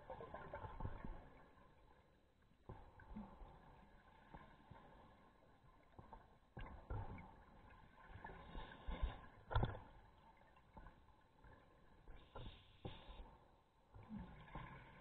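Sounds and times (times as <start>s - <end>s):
underwater bubbles gurgling: 0.0s - 15.0s.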